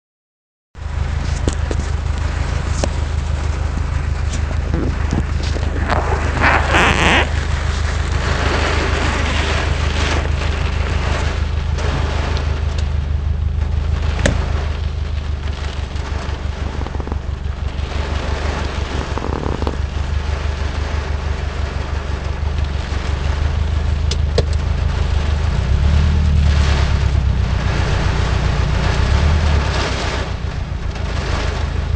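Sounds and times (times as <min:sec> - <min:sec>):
car engine and road drone: 0:00.8 - 0:31.9
heavy rain hissing: 0:00.8 - 0:31.9
rush of water: 0:00.8 - 0:31.9
tyres on wet road: 0:00.8 - 0:31.9.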